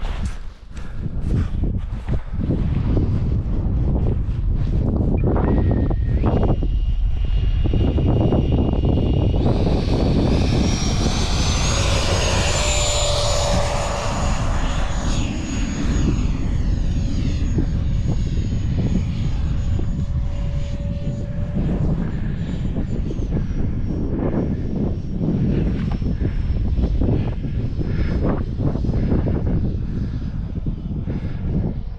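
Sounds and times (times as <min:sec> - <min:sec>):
wind buffeting microphone: 0:00.0 - 0:31.9
model jet fans whining: 0:02.5 - 0:31.9.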